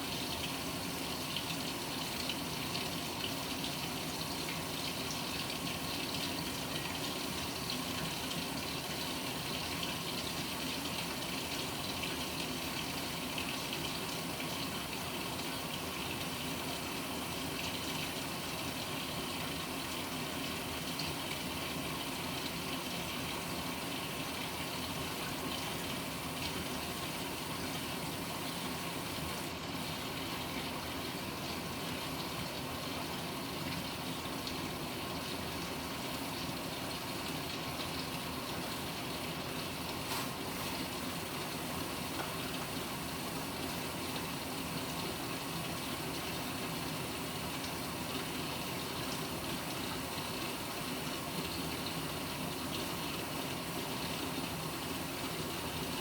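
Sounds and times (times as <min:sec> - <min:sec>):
washing machine filling with water: 0:00.0 - 0:56.0.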